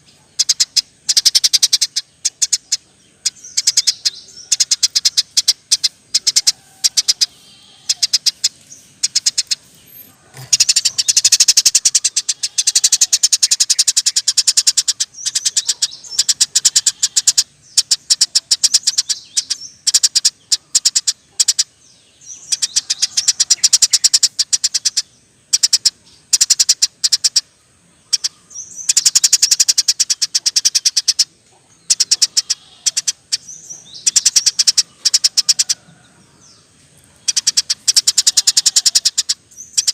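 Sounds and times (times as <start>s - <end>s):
sparrow chirping rapidly: 0.0s - 39.9s.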